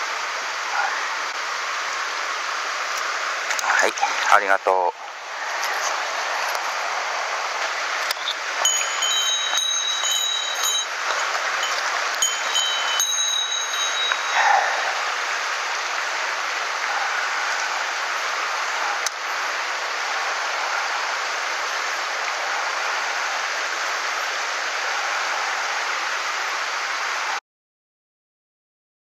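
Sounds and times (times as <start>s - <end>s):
stream running over rocks: 0.0s - 27.4s.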